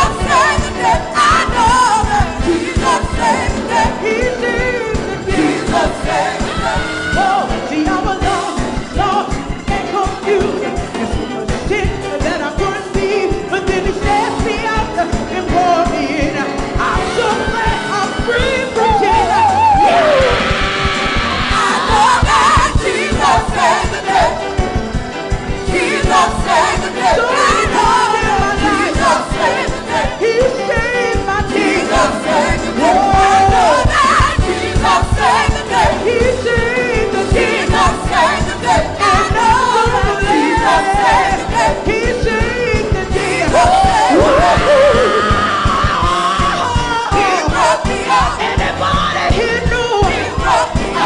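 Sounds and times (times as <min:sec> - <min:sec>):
gospel choir singing: 0:00.0 - 0:51.0
instrumental accompaniment with beat: 0:00.0 - 0:51.0.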